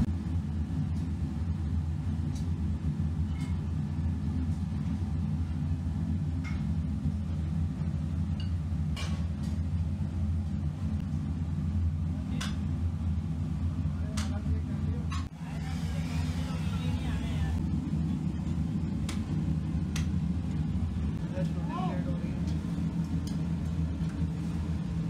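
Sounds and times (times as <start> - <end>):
gas torch burning: 0.0 - 25.0.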